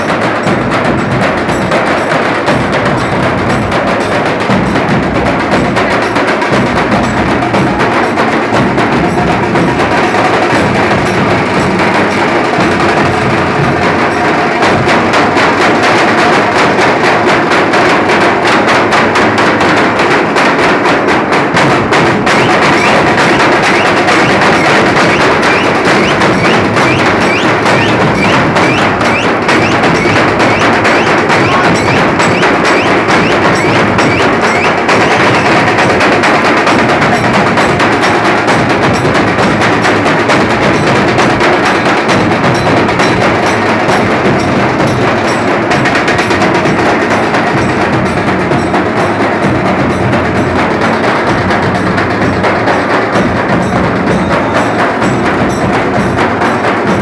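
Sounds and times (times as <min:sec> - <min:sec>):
barrel drums beating fast rhythm: 0:00.0 - 0:57.0.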